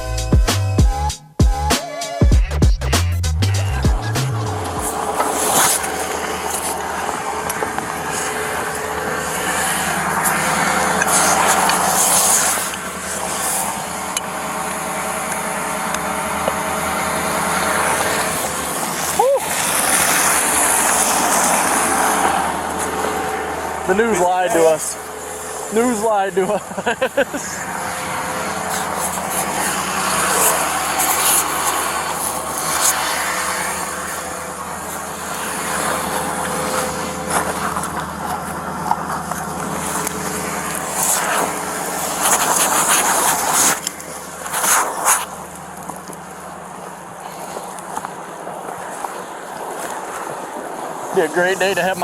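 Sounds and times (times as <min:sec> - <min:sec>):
road noise: 0:00.0 - 0:52.0
vehicle engine running: 0:00.0 - 0:52.0.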